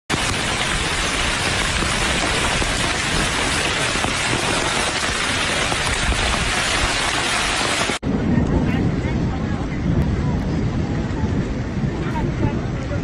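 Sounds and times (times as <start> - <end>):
heavy rain on tiled floor: 0.1 - 13.0.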